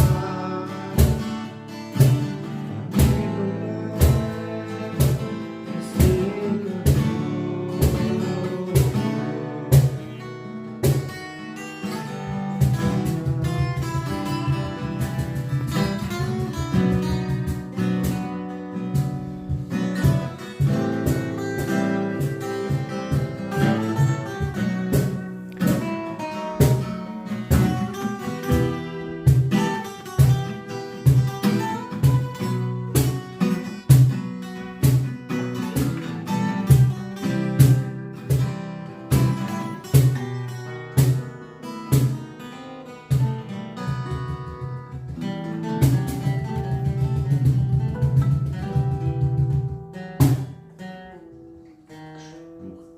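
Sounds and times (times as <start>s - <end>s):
plucked acoustic guitar: 0.0s - 52.9s.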